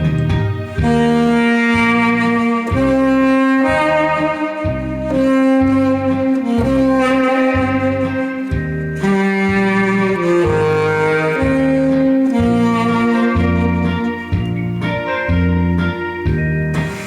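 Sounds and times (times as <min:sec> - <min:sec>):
backing track with pulsing bass: 0:00.0 - 0:17.0
tenor saxophone melody: 0:00.0 - 0:17.0.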